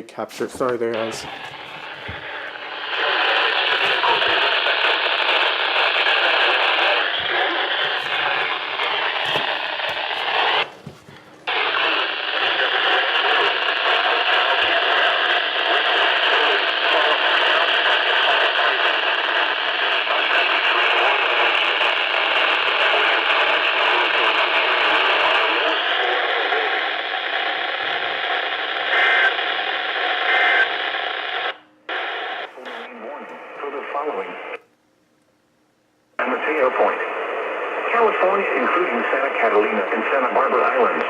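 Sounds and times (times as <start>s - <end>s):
radio static hiss: 0.0s - 34.6s, 36.2s - 41.0s.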